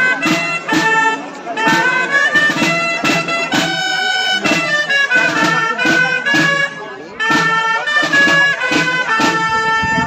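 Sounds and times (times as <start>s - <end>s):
drum beats: 0.0s - 10.0s
shawm playing folk tune: 0.0s - 10.0s.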